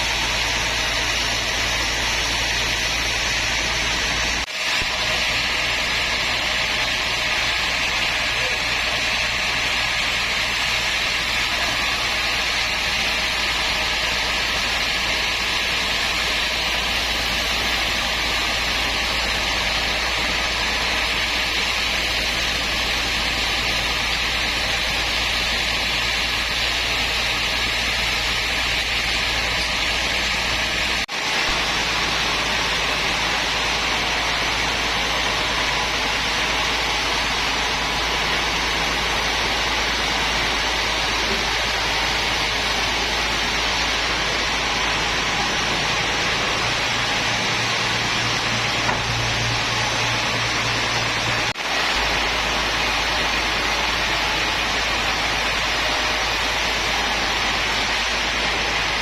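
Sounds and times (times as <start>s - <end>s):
woodworking machine running: 0.0s - 59.0s.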